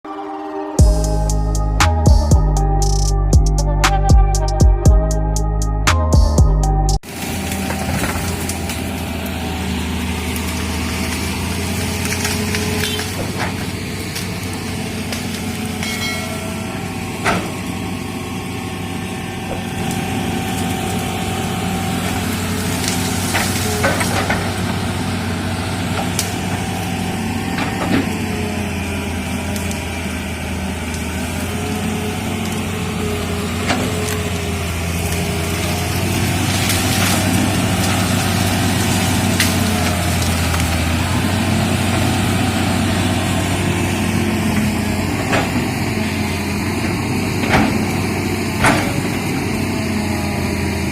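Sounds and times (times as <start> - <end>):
excavator diesel engine: 0.0 - 50.9.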